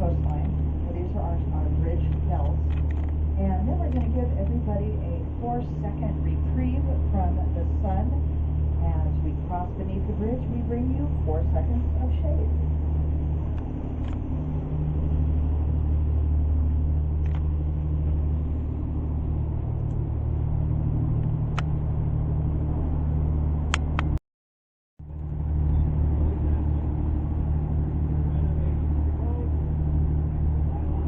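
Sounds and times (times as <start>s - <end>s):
boat engine humming: 0.0s - 24.2s, 25.0s - 31.0s.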